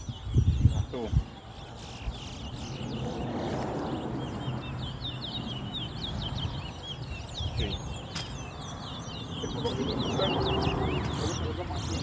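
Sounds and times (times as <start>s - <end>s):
finch chirping song: 0.0s - 12.0s
outdoor background noise: 0.0s - 12.0s.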